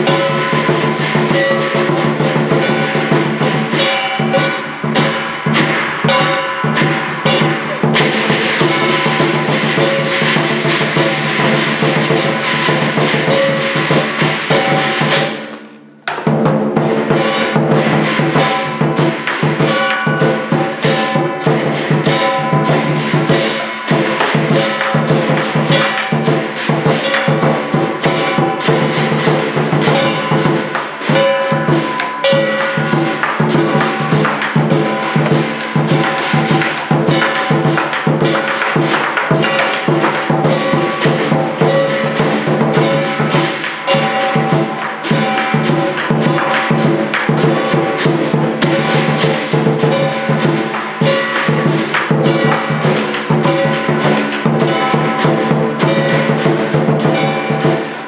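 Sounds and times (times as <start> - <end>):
gong ringing: 0.0 - 58.0
hand cymbals clashing: 0.0 - 58.0
large drum beaten fast: 0.0 - 58.0.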